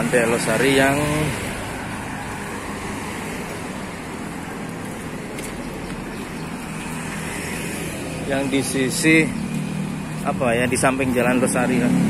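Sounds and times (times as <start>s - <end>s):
cars and motorbikes passing: 0.0s - 12.0s.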